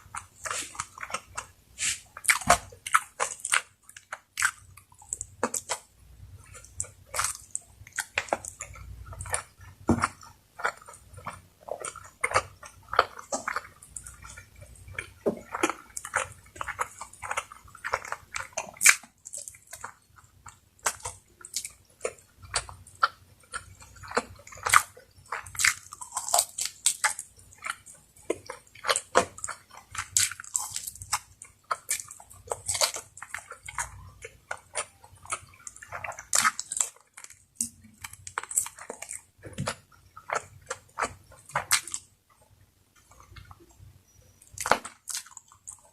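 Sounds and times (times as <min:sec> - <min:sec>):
person chewing and biting: 0:00.0 - 0:42.1, 0:44.4 - 0:45.9.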